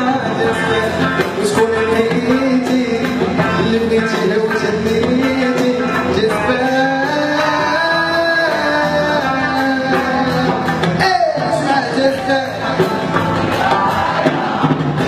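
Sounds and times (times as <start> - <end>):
man singing: 0.0 - 14.2
drum beat: 0.0 - 15.0
live band music: 0.0 - 15.0.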